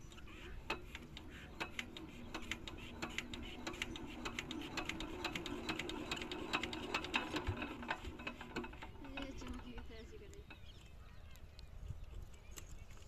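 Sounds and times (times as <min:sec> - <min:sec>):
diesel engine cranked by hand: 0:00.0 - 0:10.6.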